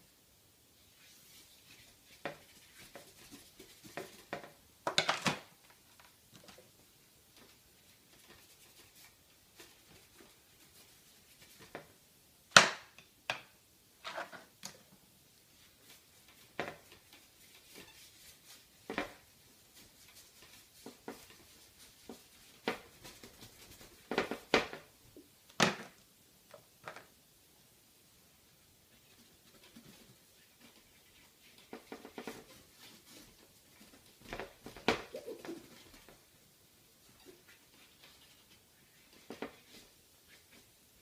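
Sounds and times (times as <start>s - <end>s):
faint brushing: 0.6s - 4.6s, 5.7s - 12.1s, 15.2s - 25.3s, 27.9s - 41.0s.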